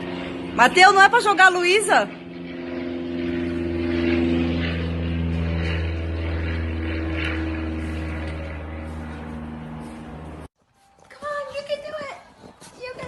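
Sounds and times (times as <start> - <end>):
motor drone with steady tones: 0.0 - 10.5.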